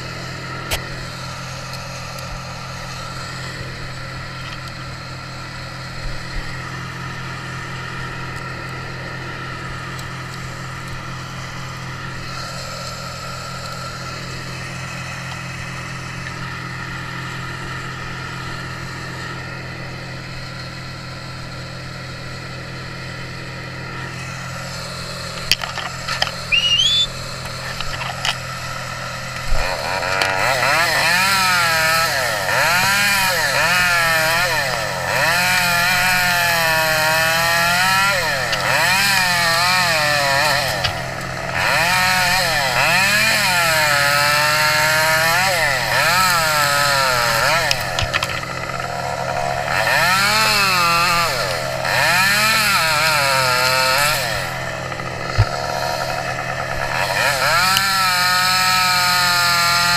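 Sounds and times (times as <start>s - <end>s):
chainsaw engine revving: 0.0s - 59.9s.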